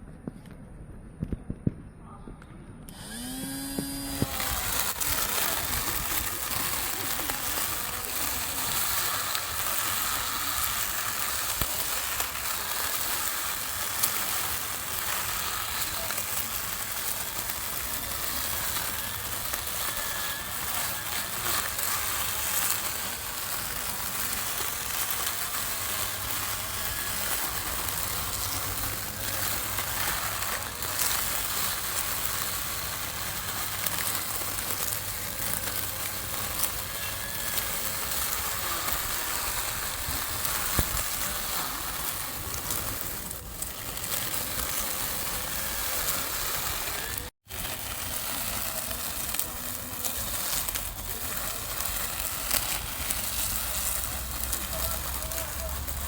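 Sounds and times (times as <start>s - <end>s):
lawn mower cutting grass: 2.9s - 56.0s.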